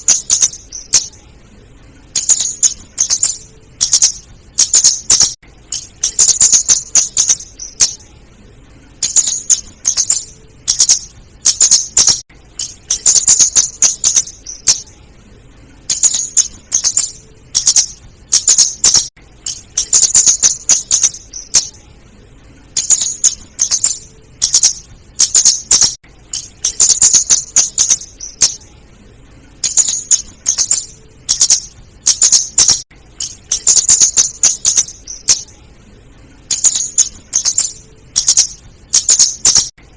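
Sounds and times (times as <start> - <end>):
bird ticking chips: 0.0 - 1.2, 2.1 - 8.0, 9.0 - 14.9, 15.9 - 21.8, 22.8 - 28.6, 29.6 - 35.5, 36.5 - 39.7.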